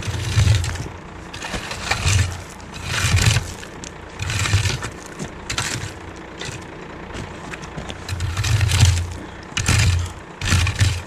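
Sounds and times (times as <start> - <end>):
metal rake scraping gravel: 0.0 - 11.0.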